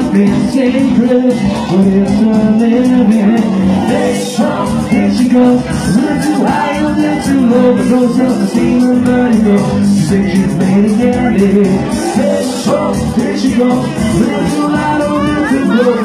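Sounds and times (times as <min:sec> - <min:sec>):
loud backing music: 0:00.0 - 0:16.0
man singing into microphone: 0:00.0 - 0:16.0.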